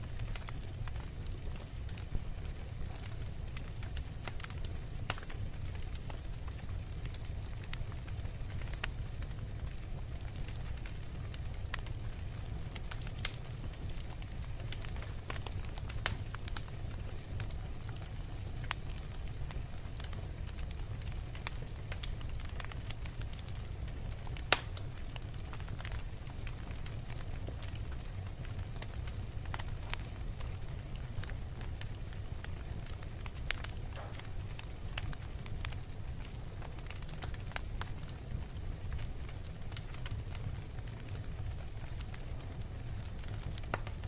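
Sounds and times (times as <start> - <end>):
fire rumbling: 0.0 - 44.0
wood crackling: 0.0 - 44.0.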